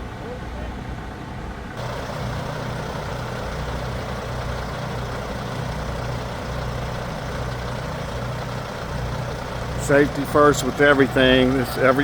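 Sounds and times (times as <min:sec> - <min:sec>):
heavy engine humming: 0:00.0 - 0:12.0.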